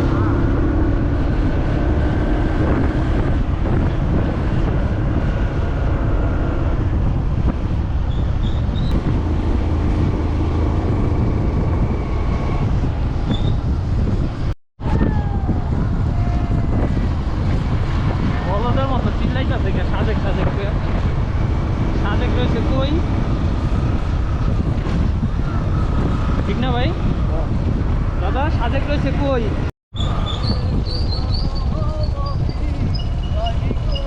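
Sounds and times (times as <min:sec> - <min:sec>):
wind noise on microphone: 0:00.0 - 0:34.0.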